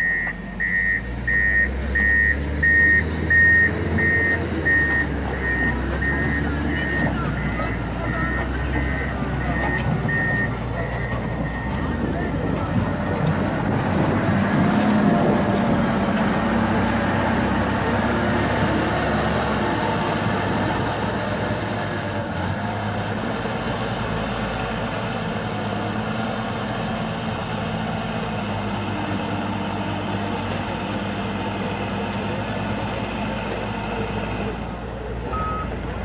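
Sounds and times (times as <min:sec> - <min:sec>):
wheel loader diesel engine running: 0:00.0 - 0:36.0.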